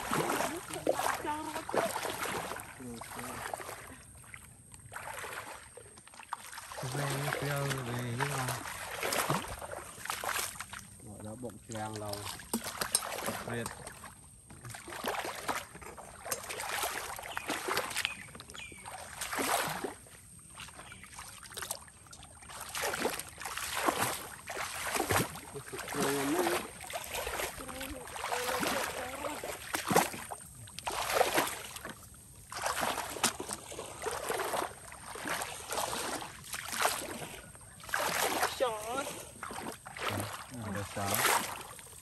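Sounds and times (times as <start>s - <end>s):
wading through water: 0.0s - 42.0s.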